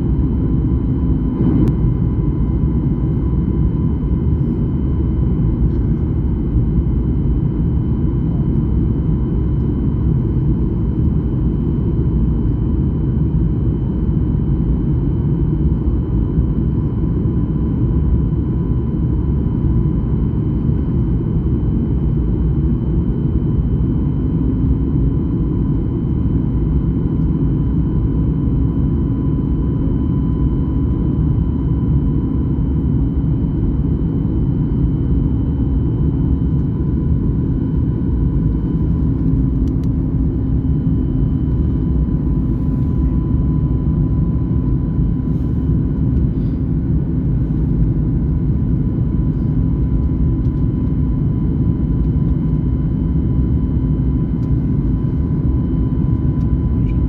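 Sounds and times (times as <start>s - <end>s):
faint steady whine: 0.0s - 15.4s, 18.4s - 57.0s
airliner engine rumble in cabin: 0.0s - 57.0s.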